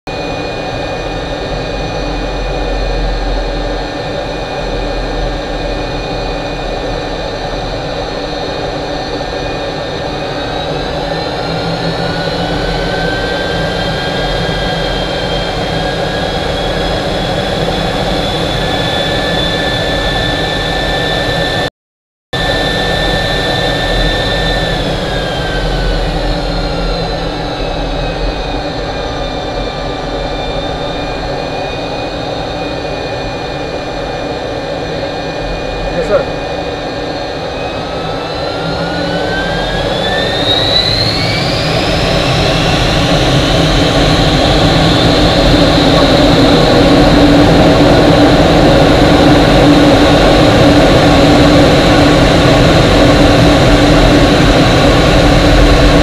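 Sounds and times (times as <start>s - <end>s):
jet engine roar: 0.1s - 21.7s, 22.4s - 56.0s
turbine whine: 0.1s - 21.7s, 22.4s - 56.0s.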